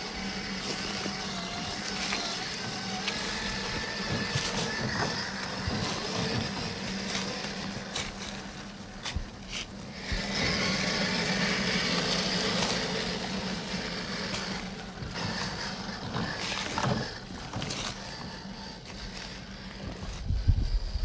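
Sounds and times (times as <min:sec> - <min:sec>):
toy car electric motor humming: 0:00.0 - 0:21.0.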